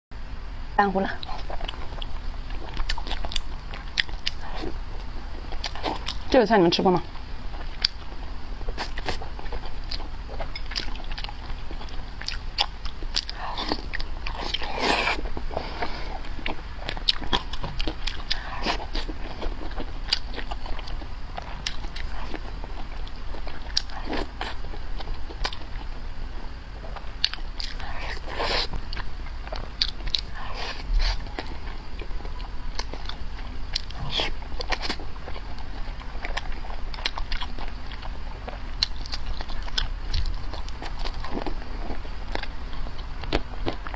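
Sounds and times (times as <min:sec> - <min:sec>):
steady low hum: 0:00.1 - 0:43.9
chewing and crunching: 0:01.1 - 0:43.9.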